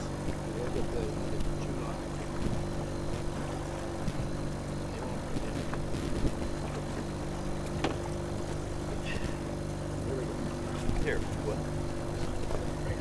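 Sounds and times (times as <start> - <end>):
light knocks in boat: 0.0 - 9.5, 10.3 - 13.0
outboard motor running: 0.0 - 13.0.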